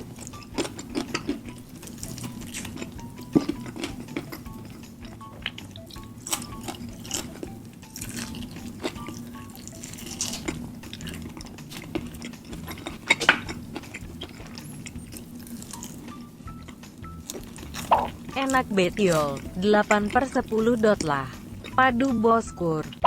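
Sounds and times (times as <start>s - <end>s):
close chewing and biting: 0.0s - 21.8s
faint background music: 0.0s - 23.0s.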